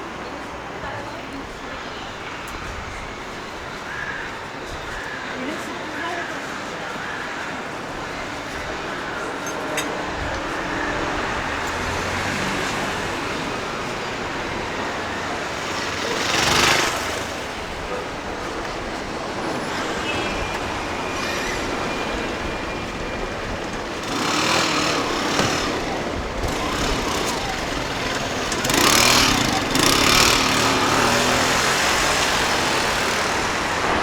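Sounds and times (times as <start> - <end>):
road noise: 0.0 - 34.0
vehicles passing close: 0.0 - 34.0.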